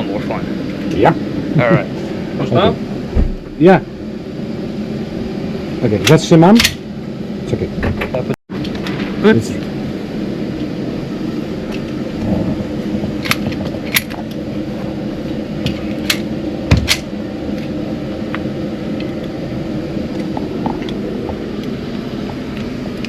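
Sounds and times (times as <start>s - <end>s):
ventilation fan hum: 0.0s - 23.0s.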